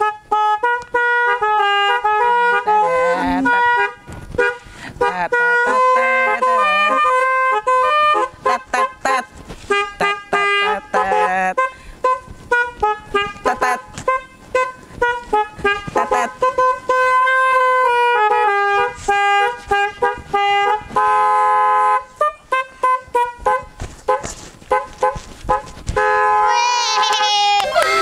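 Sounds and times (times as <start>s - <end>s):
musical air horn melody: 0.0s - 28.0s.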